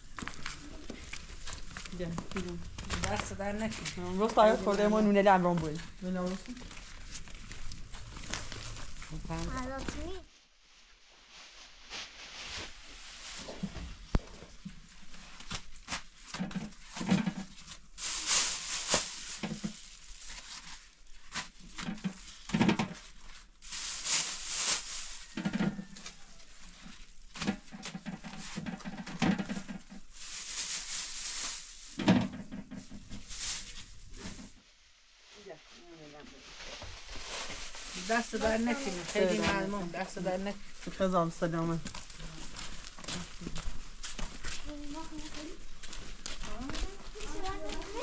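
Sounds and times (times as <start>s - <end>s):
plastic bag rustling and crinkling: 0.0s - 48.0s.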